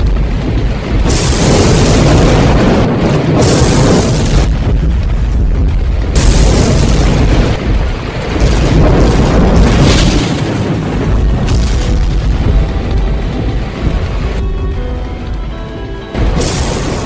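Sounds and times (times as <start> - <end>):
cinematic trailer music: 0.0 - 17.0
deep booming hits: 0.0 - 17.0.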